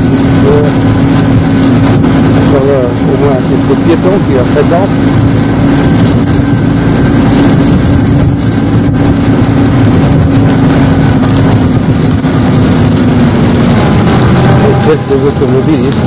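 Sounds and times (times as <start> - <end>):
jeep engine droning: 0.0 - 16.0
rough road rumble: 0.0 - 16.0.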